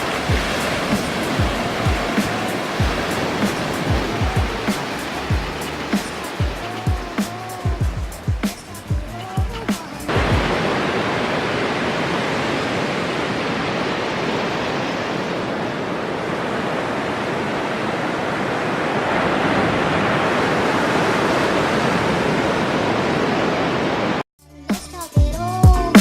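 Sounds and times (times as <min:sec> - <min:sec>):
ocean surf breaking on beach: 0:00.0 - 0:24.2.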